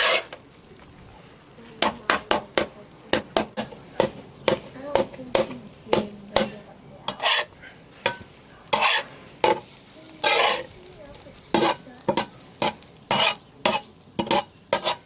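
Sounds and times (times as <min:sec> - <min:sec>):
spatula scraping and tapping a pan: 0:00.0 - 0:00.4, 0:01.8 - 0:15.0
eggs frying in grease: 0:00.0 - 0:15.0.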